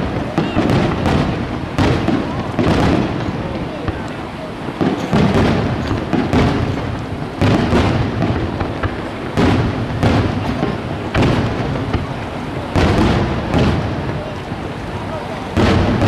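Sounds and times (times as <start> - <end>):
firework shells booming: 0.0 - 16.0.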